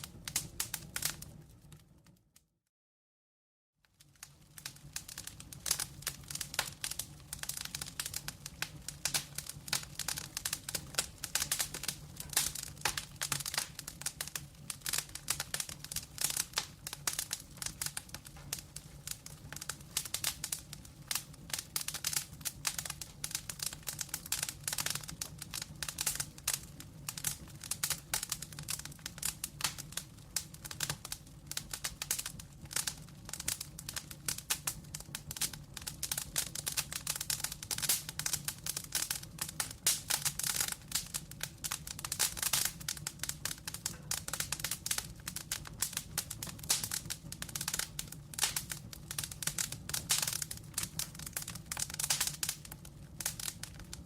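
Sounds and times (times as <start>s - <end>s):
wood fire crackling: 0.0s - 2.4s, 3.8s - 54.0s.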